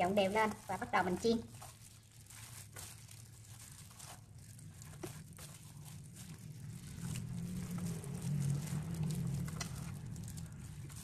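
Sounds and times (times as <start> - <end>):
soft scraping of stirring in bowl: 1.1 - 11.0.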